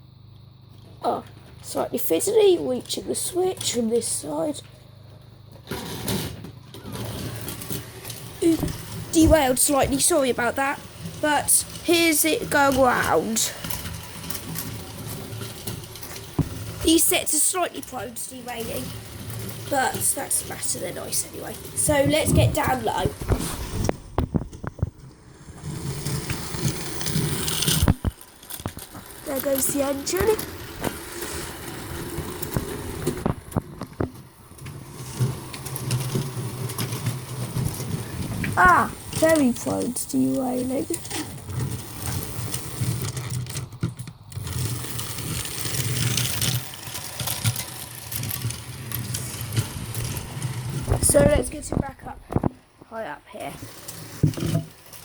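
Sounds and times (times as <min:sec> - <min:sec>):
toy train motor whirring: 0:01.1 - 0:04.7, 0:05.6 - 0:23.9, 0:24.6 - 0:52.0, 0:53.4 - 0:55.0
toy train wheels rattling: 0:01.1 - 0:04.7, 0:05.7 - 0:23.2, 0:25.4 - 0:33.8, 0:34.5 - 0:52.0, 0:53.4 - 0:55.0.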